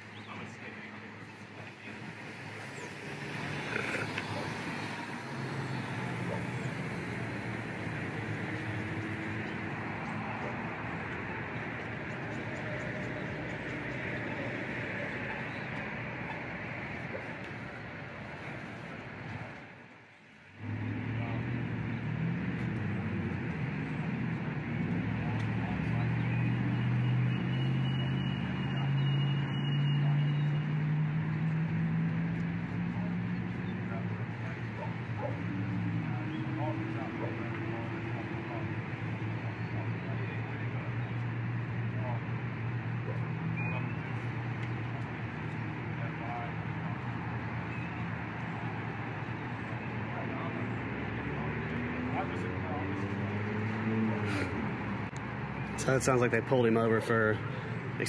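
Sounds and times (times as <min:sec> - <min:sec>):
road traffic: 0:00.0 - 0:58.0
vehicle engine humming: 0:00.0 - 0:58.0.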